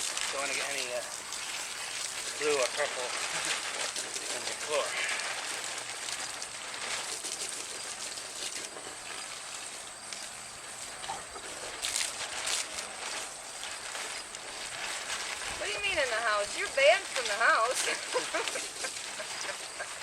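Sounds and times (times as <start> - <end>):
garden hose spray hissing: 0.0 - 20.0
water splashing: 0.0 - 20.0.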